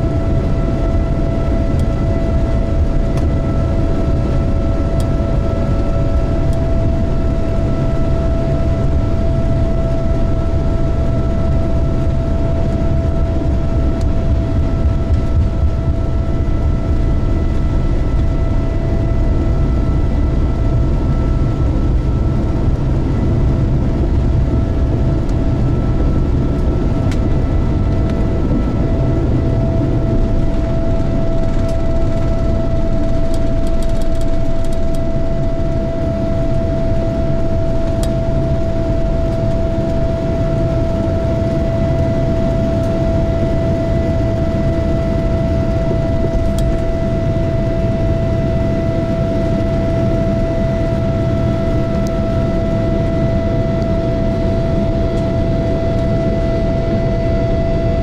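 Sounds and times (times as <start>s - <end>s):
jet engine whine: 0.0s - 58.0s
wheels rumbling on runway: 0.0s - 58.0s.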